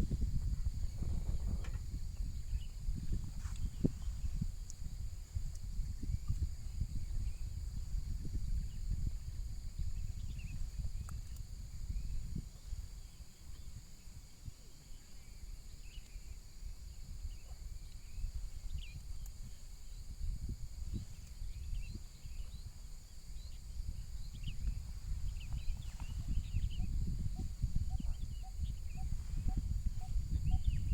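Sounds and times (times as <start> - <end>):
insects droning: 0.0 - 30.9
wind buffeting microphone: 0.0 - 30.9.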